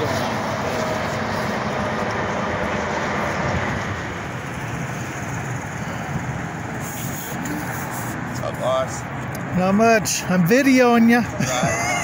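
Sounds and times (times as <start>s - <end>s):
freeway traffic rushing: 0.0s - 12.0s.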